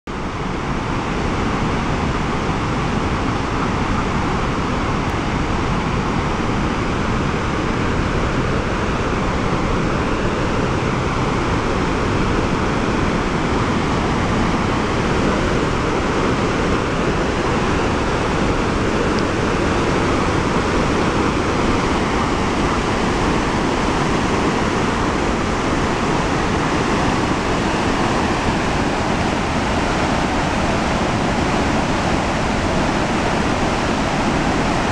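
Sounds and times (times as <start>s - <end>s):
whitewater rushing: 0.1s - 34.9s.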